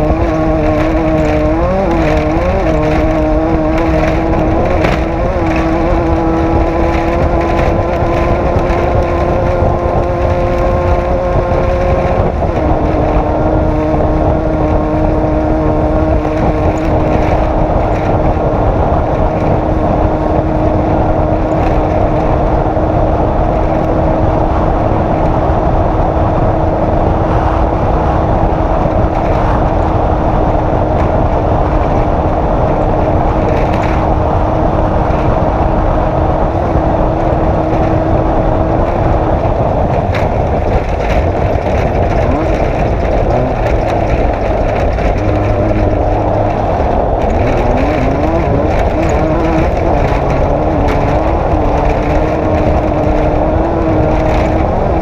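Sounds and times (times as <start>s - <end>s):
race vehicle engine running hard: 0.0s - 55.0s
wind noise: 0.0s - 55.0s.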